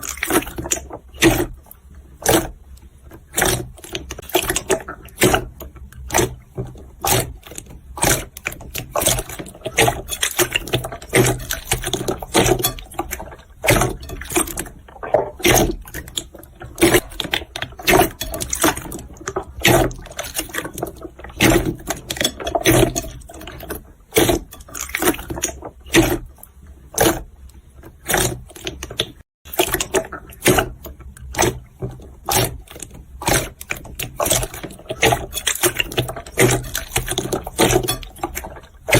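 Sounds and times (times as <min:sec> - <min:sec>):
slime squelching: 0:00.0 - 0:38.9.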